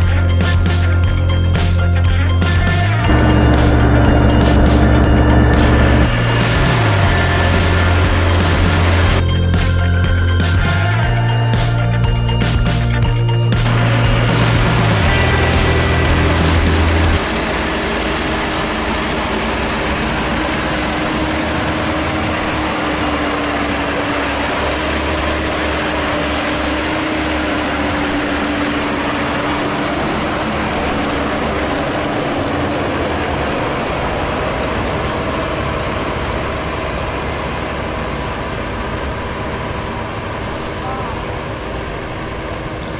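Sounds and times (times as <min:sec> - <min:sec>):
combine harvester engine droning: 0:00.0 - 0:42.9.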